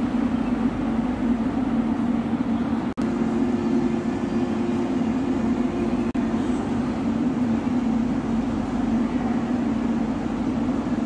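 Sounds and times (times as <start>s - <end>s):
train rumble and hum: 0.0s - 11.0s.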